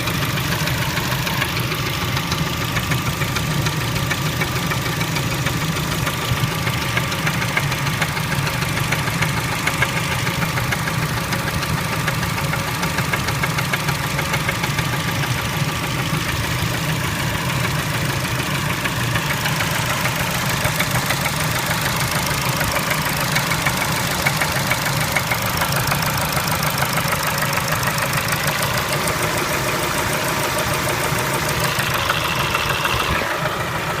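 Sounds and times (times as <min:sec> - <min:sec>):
car engine running with knock: 0:00.0 - 0:34.0.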